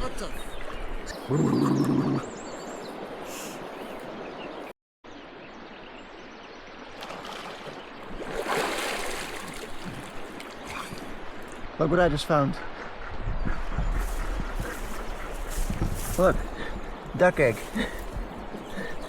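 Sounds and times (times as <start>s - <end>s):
river water flowing: 0.0s - 13.0s, 14.0s - 19.0s.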